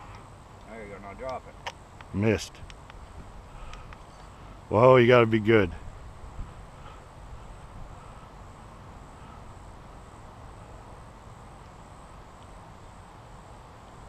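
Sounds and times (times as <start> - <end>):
faint high-pitched whine: 0.0 - 14.0
outdoor background noise: 0.0 - 14.0.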